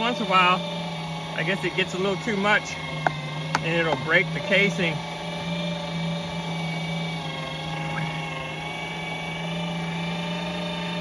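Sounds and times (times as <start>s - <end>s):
electric meat grinder humming: 0.0s - 11.0s.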